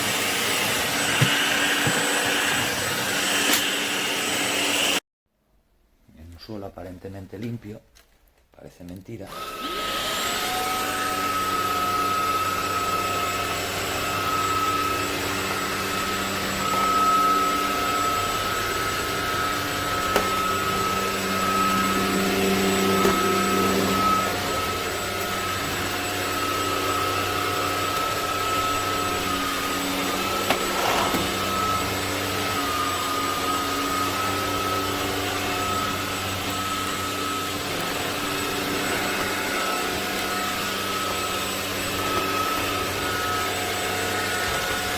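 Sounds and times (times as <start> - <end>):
vacuum cleaner motor whine: 0.0 - 5.0, 9.3 - 44.9.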